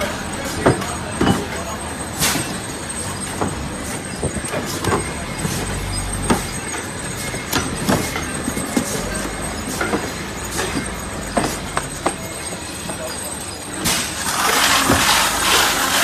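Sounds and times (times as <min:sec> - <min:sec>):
sharp machine clacks and knocks: 0:00.4 - 0:16.0.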